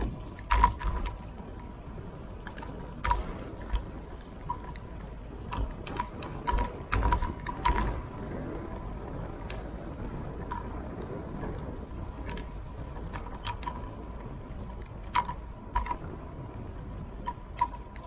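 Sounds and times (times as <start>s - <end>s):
bicycle rattling clicks and knocks: 0.0s - 18.0s
low rumble: 0.0s - 18.0s.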